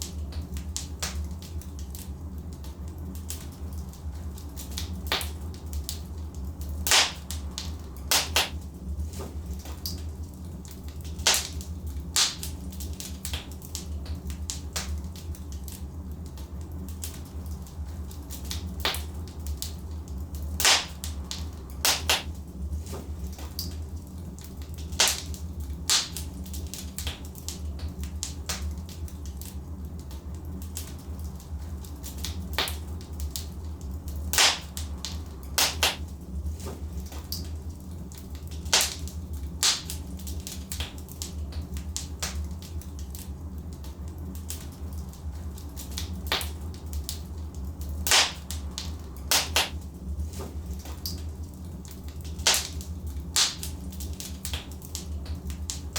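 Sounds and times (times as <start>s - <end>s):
logs crackling and popping: 0.0s - 55.9s
low fire rumble: 0.0s - 55.9s.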